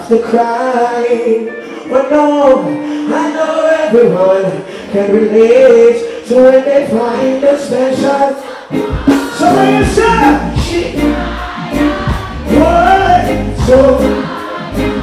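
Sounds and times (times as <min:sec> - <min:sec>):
man singing into microphone: 0:00.0 - 0:11.3, 0:12.5 - 0:14.4
reggae music: 0:00.0 - 0:15.0.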